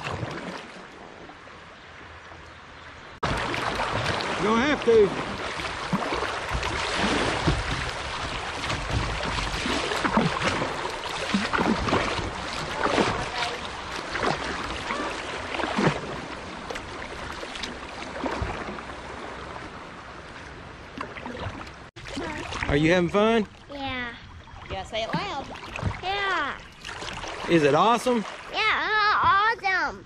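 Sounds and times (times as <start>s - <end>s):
river current rushing around kayak: 0.0s - 29.8s.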